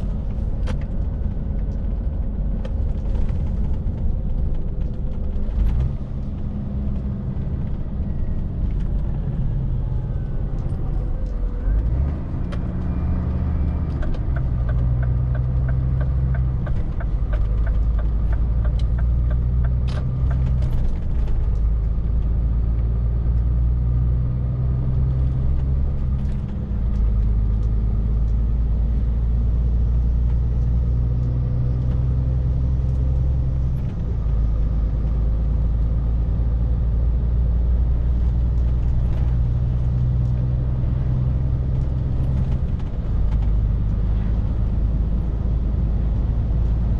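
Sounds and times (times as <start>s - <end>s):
truck diesel engine drone: 0.0s - 46.9s.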